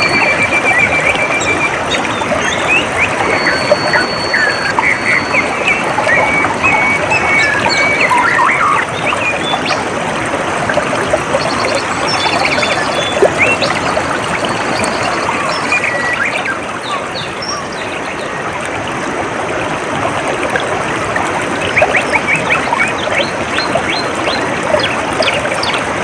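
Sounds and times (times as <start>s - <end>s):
birds chirping: 0.0s - 10.0s, 11.2s - 18.4s, 21.7s - 26.0s
water trickling: 0.0s - 26.0s.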